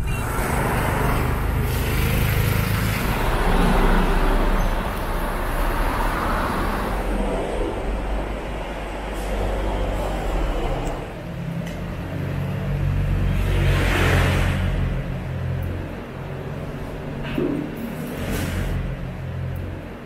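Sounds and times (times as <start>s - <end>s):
traffic rush: 0.0s - 20.0s.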